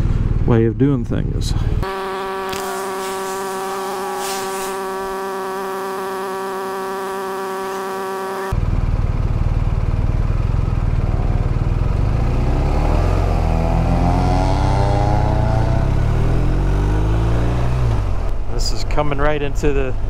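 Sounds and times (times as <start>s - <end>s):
motorcycle engine rumble: 0.0s - 20.0s
steady buzzing drone: 1.4s - 18.5s.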